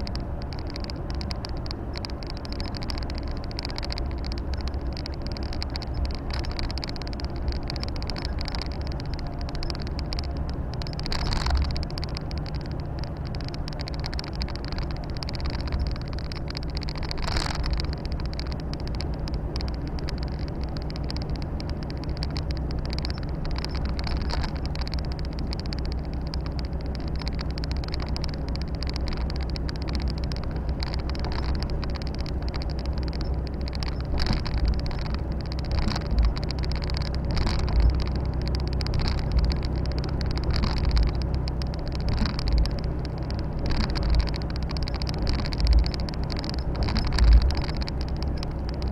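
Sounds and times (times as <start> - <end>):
road and tyre noise: 0.0 - 48.9
truck diesel engine running: 0.0 - 48.9.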